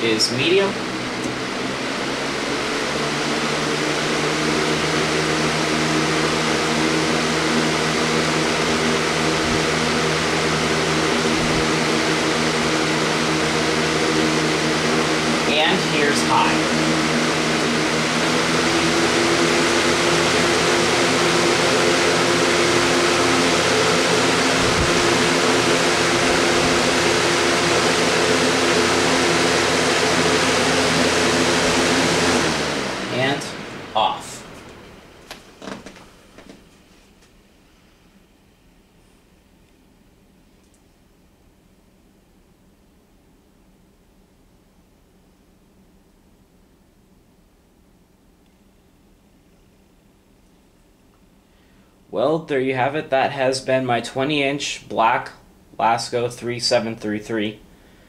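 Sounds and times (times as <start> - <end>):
box fan blowing air: 0.0 - 58.0.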